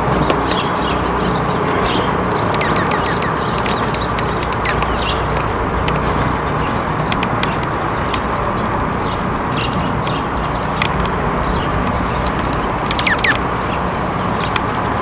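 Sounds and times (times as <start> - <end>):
rushing background noise: 0.0 - 15.0
small birds chirping: 0.0 - 15.0
sharp ticks and clicks: 0.2 - 15.0.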